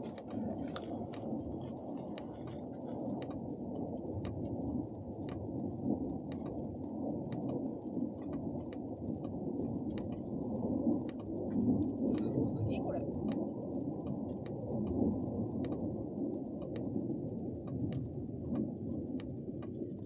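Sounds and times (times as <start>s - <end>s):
faint ticks: 0.0s - 12.4s, 13.0s - 20.0s
wind buffeting microphone: 0.0s - 20.0s.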